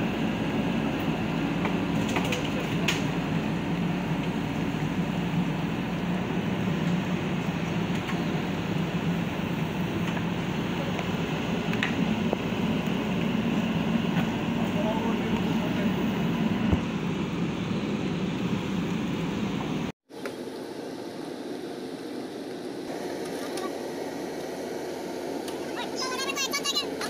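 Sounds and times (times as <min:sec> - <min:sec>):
diesel engine running at low revs: 0:00.0 - 0:27.0.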